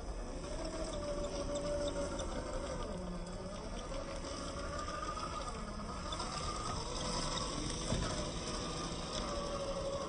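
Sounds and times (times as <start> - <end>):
electric motor and gears whining: 0.0 - 10.0.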